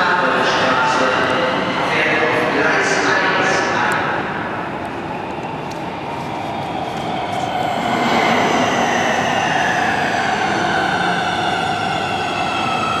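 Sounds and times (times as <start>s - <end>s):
electric train whine: 0.8s - 13.0s.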